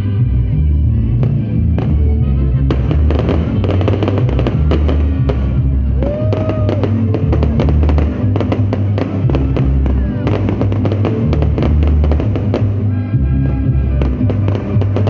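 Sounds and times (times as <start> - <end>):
music with heavy bass: 0.0 - 15.0
fireworks crackling and banging: 1.2 - 15.0.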